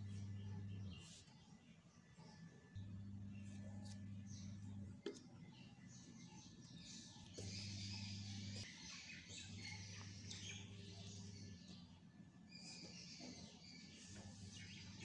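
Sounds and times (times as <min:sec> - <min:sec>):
birds chirping and twittering: 0:00.0 - 0:15.0
low steady hum: 0:00.0 - 0:15.0.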